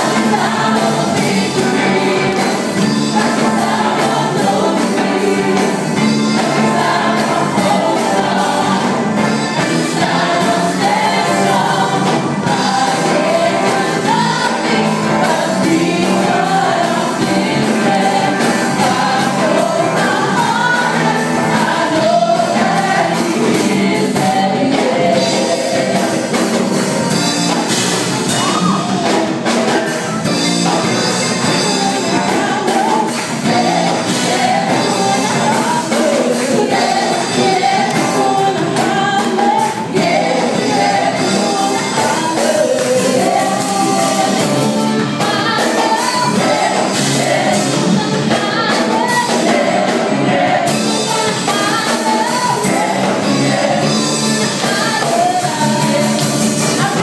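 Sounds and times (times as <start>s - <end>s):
women singing gospel song: 0.0s - 26.8s, 31.2s - 57.0s
live band with electric guitars: 0.0s - 57.0s.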